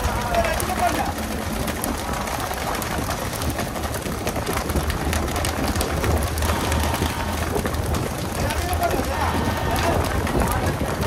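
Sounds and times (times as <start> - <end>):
low engine hum: 0.0 - 11.0
small clicks and slaps: 0.0 - 11.0.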